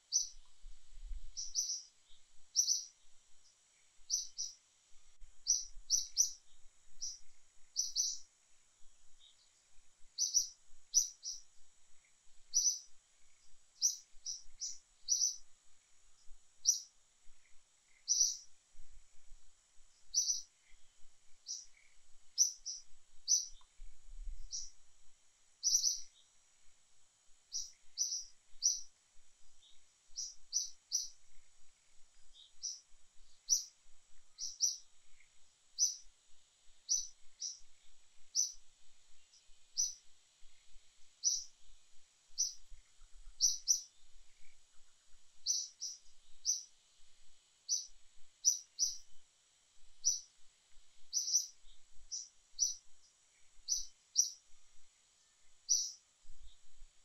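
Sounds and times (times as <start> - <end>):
faint steady high hiss: 0.0 - 57.0
small bird chirping: 0.0 - 57.0.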